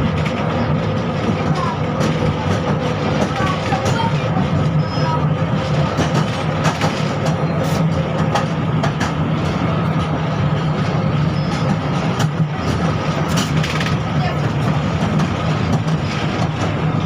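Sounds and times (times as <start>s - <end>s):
tram running hum and rumble: 0.0s - 17.0s.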